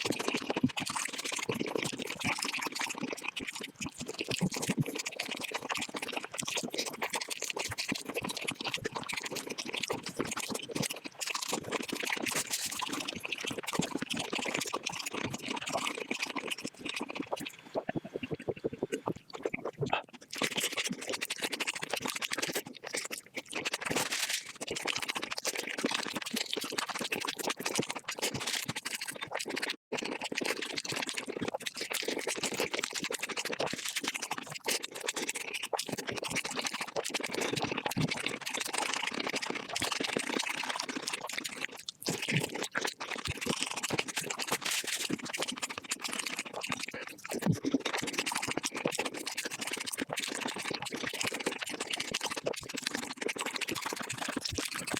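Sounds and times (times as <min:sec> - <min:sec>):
sped-up chewing crackle: 0:00.0 - 0:54.9.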